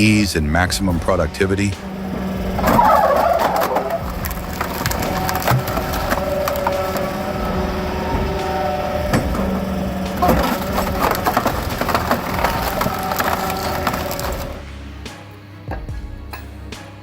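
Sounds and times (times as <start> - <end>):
steady machine hum: 0.0 - 15.1
wood cracking and splintering: 1.0 - 14.6.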